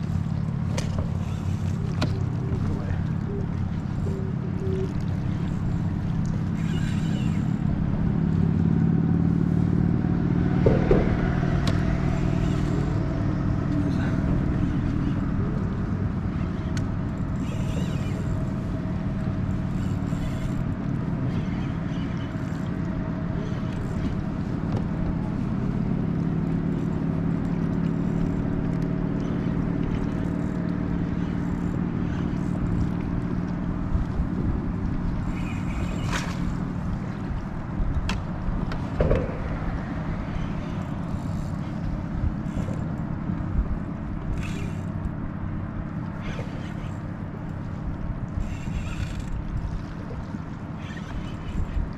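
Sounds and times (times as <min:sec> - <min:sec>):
low engine drone: 0:00.0 - 0:51.9.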